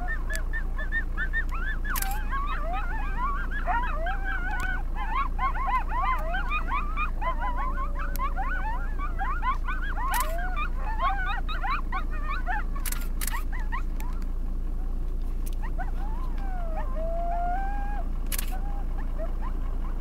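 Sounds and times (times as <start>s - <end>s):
long level coyote howl: 0.0s - 14.2s, 14.8s - 20.0s
coyotes yipping and howling: 0.0s - 20.0s.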